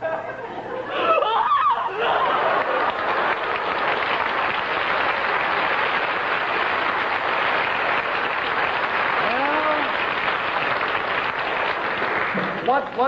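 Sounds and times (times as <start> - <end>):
audience applauding: 2.0 - 13.0.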